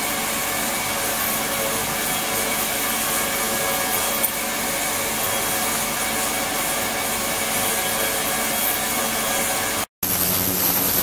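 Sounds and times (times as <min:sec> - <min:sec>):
high whine: 0:00.0 - 0:11.0
ultrasonic cleaner hiss and hum: 0:00.0 - 0:11.0.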